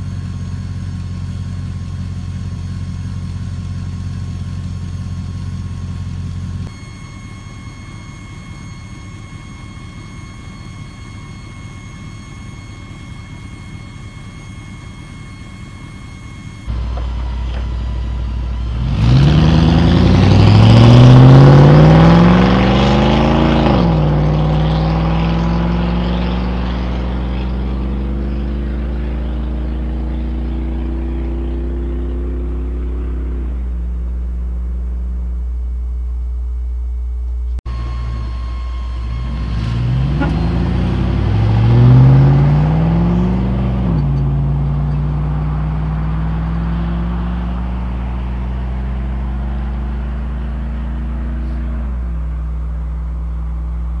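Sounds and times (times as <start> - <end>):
truck engine accelerating: 0.0 - 54.0.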